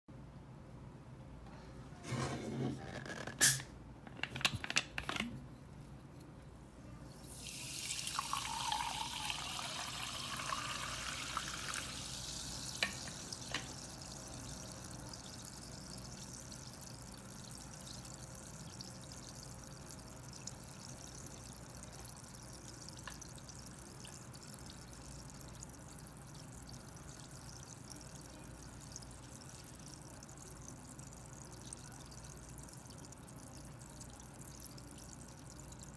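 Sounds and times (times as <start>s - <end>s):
water fizzing: 7.1s - 35.9s
water pouring into glass: 7.1s - 35.9s.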